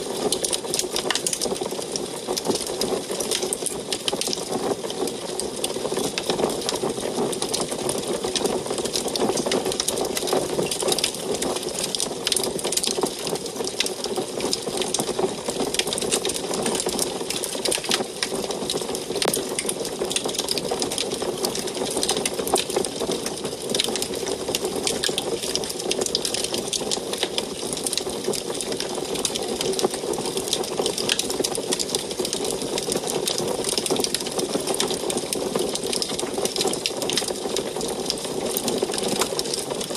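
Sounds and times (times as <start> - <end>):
wood fire crackling in a stove: 0.0 - 39.9.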